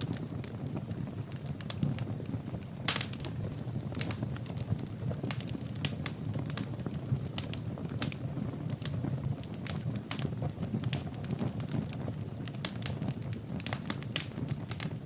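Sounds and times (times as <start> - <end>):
fire pops and snaps: 0.0 - 15.0
low rumble of flames: 0.0 - 15.0
wood fire crackling: 0.0 - 15.0.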